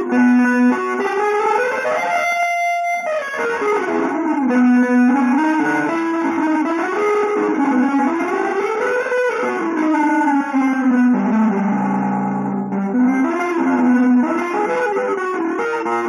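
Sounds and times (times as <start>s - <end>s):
guitar playing single-note lines: 0.0s - 16.0s.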